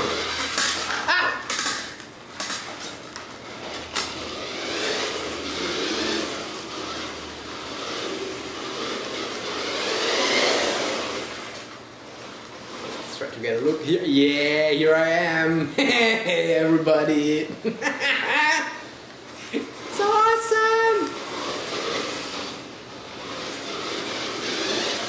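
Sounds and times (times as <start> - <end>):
toy rc car motor and wheels: 0.0 - 15.5, 19.5 - 25.0.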